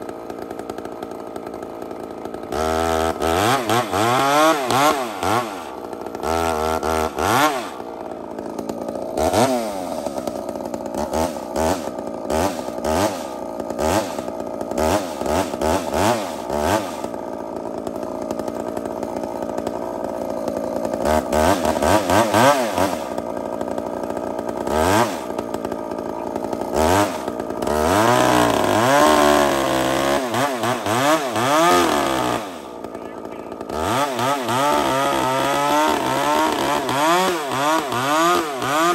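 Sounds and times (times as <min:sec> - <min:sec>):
chainsaw boring into timber: 0:00.0 - 0:38.9.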